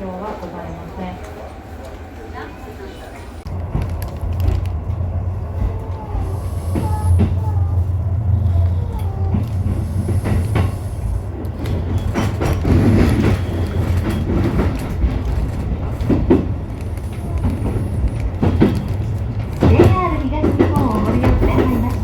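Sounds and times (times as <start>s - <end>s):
train running hum: 0.0s - 22.0s
wheels clicking over rail joints: 3.5s - 22.0s.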